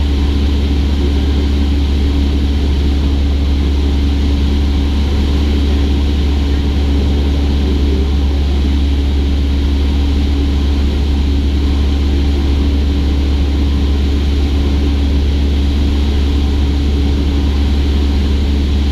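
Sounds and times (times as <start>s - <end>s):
aircraft engine droning in cabin: 0.0s - 18.9s.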